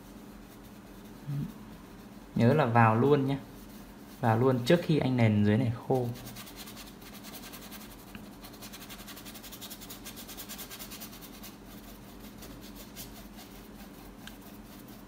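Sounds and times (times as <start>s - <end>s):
low steady hum: 0.0s - 15.0s
paintbrush scratching on canvas: 0.0s - 15.0s.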